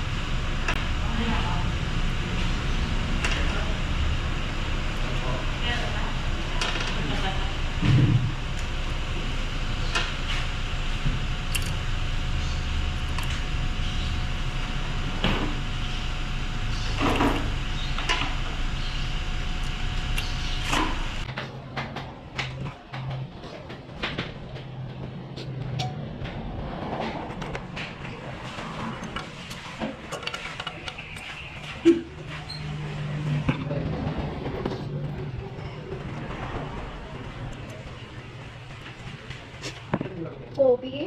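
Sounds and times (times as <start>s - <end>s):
steady background noise: 0.0s - 41.0s.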